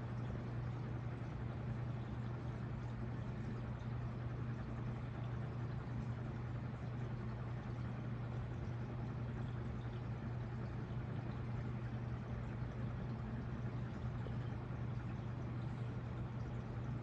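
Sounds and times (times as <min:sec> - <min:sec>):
ceiling fan running: 0:00.0 - 0:17.0.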